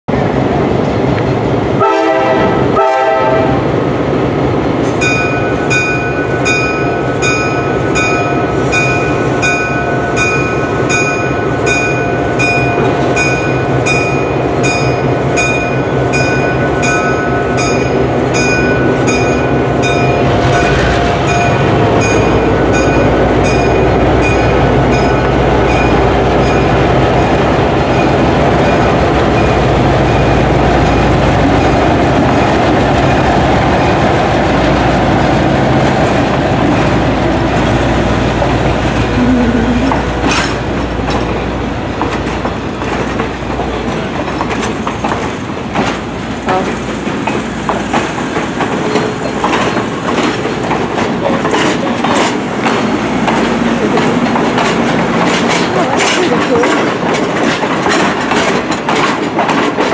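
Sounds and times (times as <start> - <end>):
diesel locomotive engines rumbling: 0.1 - 59.9.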